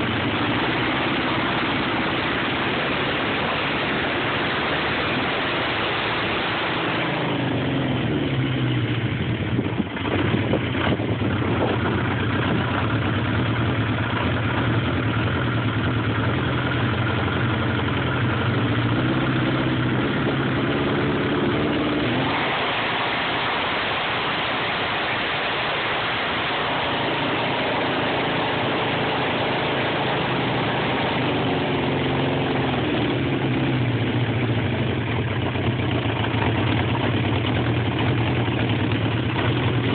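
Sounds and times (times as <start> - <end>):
engine idling roughly: 0.0 - 39.9.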